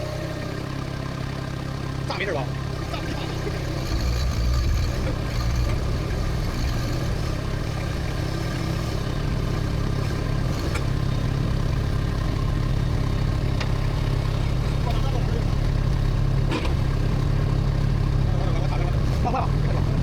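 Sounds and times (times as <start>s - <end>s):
loader engine running: 0.0s - 20.0s.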